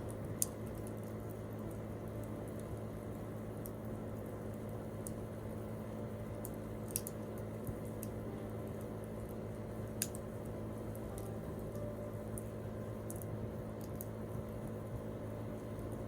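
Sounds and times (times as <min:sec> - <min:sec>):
wood campfire burning: 0:00.0 - 0:16.0.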